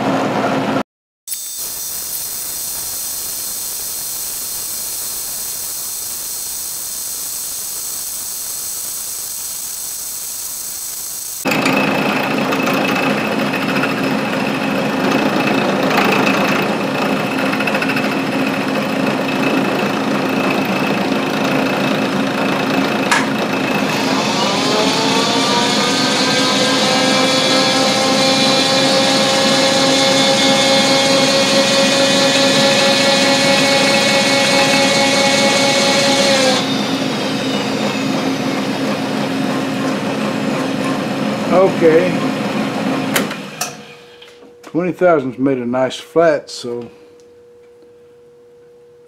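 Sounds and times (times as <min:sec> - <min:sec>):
machine whine: 0:00.0 - 0:44.6
milling machine cutting steel: 0:01.3 - 0:44.1.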